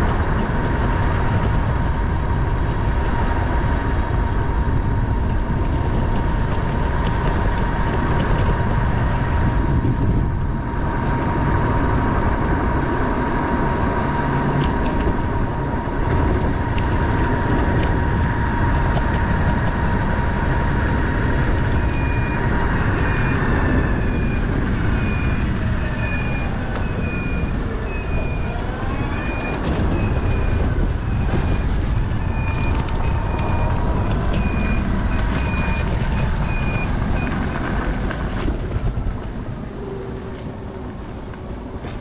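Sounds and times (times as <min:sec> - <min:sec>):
road rumble: 0:00.0 - 0:42.0
thin steady whine: 0:00.0 - 0:42.0
wind buffeting: 0:00.0 - 0:42.0.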